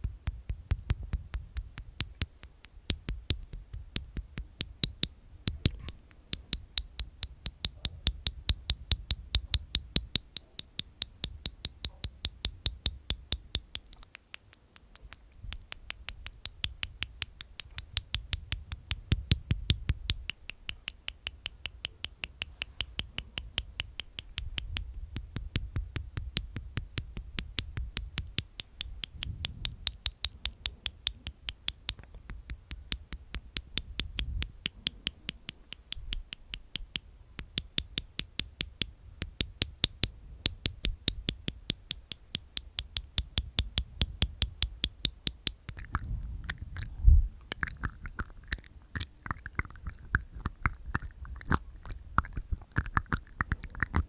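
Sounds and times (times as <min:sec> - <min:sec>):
mouth clicking sounds: 0:00.0 - 0:54.0.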